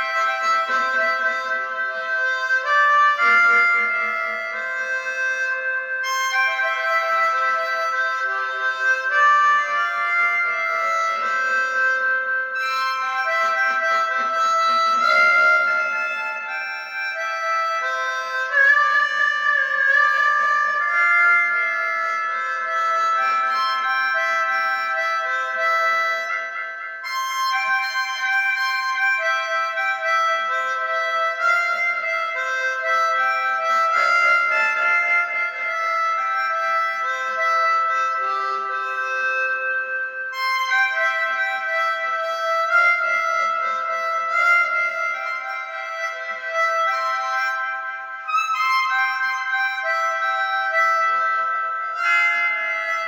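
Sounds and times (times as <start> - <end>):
reed wind instrument melody: 0.0 - 53.0.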